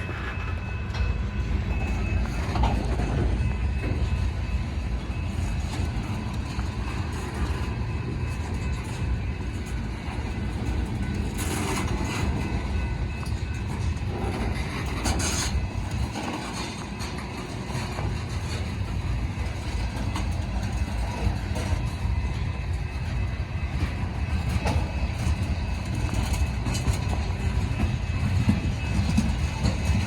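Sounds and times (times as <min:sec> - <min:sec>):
freight train rumble: 0:00.0 - 0:30.0
wheel and rail noise: 0:00.0 - 0:30.0.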